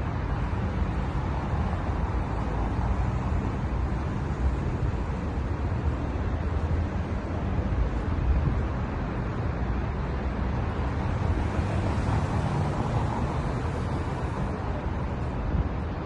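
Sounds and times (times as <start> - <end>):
cars passing with low rumble: 0.0 - 16.0.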